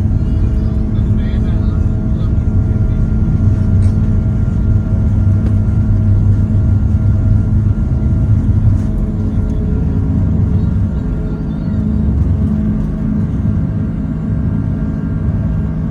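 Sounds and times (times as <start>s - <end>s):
aircraft cabin engine drone: 0.0s - 15.9s.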